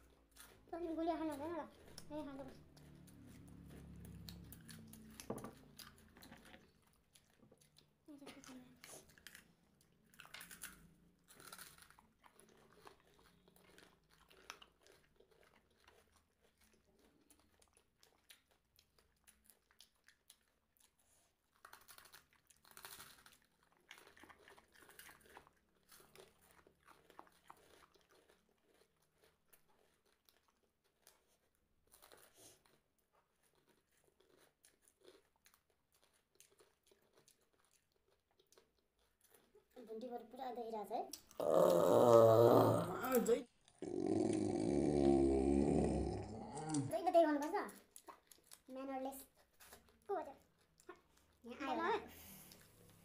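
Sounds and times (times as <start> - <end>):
faint crunchy chewing: 0.0 - 53.0.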